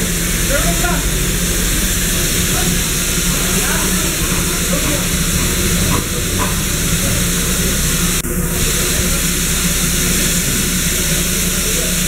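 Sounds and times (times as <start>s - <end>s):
steam hissing from locomotive: 0.0s - 12.0s.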